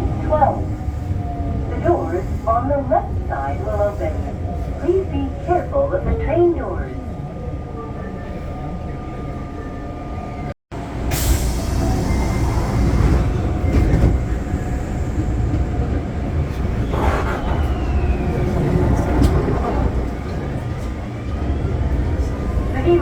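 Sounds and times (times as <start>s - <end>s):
subway train rumbling: 0.0s - 23.0s.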